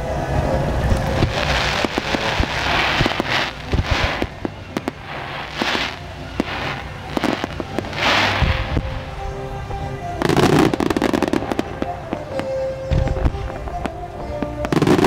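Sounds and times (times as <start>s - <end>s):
fireworks hissing crackle: 0.2s - 15.0s
fireworks bangs: 0.8s - 15.0s.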